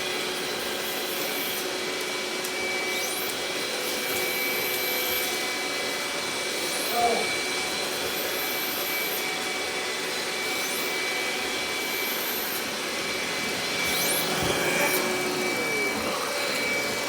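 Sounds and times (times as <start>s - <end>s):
robot vacuum cleaner whining: 0.1s - 17.0s.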